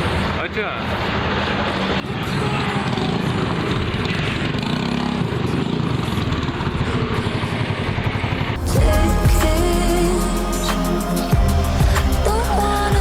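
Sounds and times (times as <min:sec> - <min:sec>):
scooter engine running: 0:02.4 - 0:13.0.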